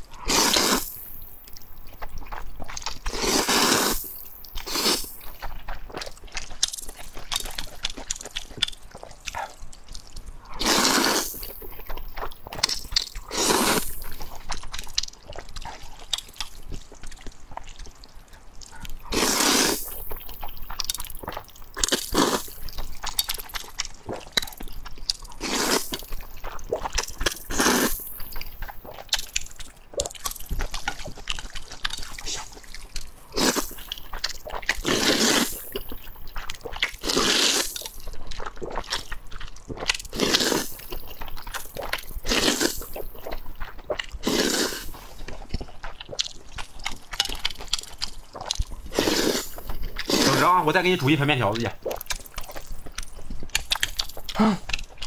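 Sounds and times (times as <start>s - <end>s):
mouth clicks: 0.0s - 55.0s
slurping noodles: 0.0s - 55.0s
wet chewing: 0.0s - 55.0s.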